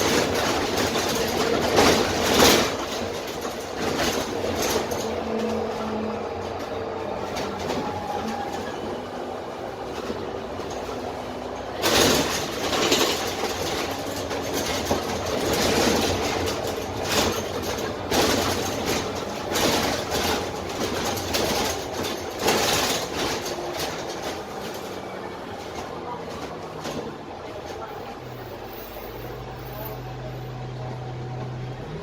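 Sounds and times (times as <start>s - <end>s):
panels and windows rattling: 0.0s - 27.9s
bus diesel engine running: 0.0s - 32.0s
road noise: 0.0s - 32.0s.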